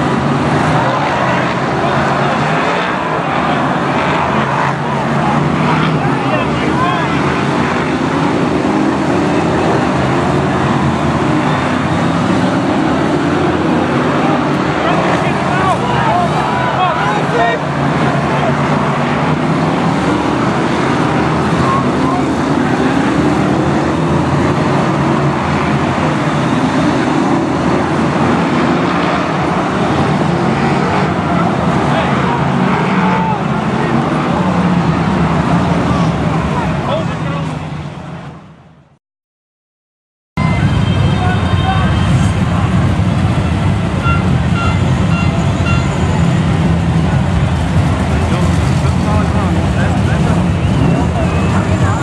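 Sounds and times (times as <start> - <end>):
race car engines droning: 0.0 - 39.0, 40.4 - 52.0.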